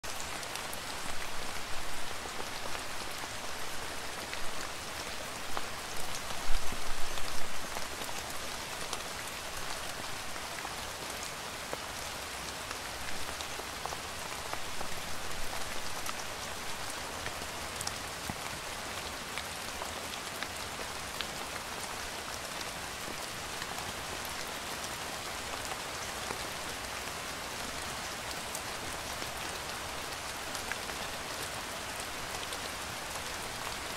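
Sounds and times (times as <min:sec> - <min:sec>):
steady rain patter: 0:00.0 - 0:33.9.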